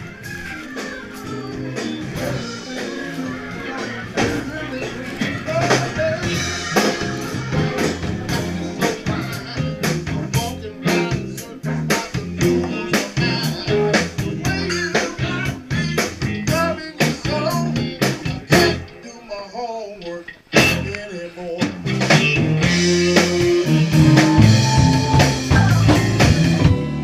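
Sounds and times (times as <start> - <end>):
drum kit beat: 0.0 - 18.9, 20.6 - 21.0, 21.6 - 27.0
bass guitar: 0.0 - 19.0, 20.5 - 27.0
electric guitar: 0.0 - 19.3, 20.0 - 27.0.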